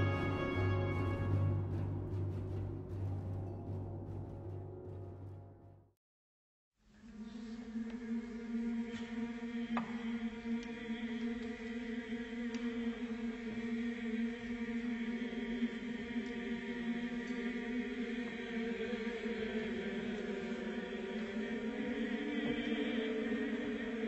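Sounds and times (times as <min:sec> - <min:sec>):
choir holding a chord: 0:00.0 - 0:03.1, 0:07.1 - 0:24.0.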